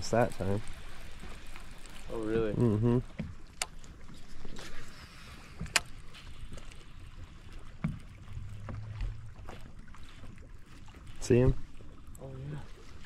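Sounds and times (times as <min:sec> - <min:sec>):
water wash: 0:00.0 - 0:13.0.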